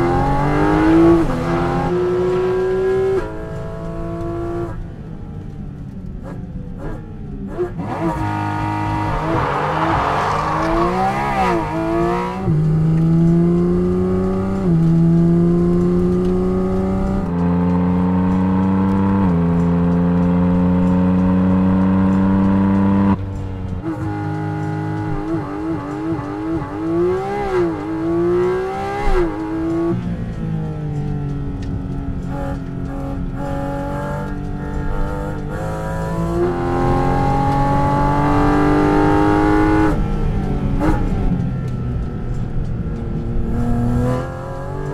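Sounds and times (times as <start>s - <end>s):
car engine revving at high revs: 0.0s - 5.5s, 6.1s - 44.9s.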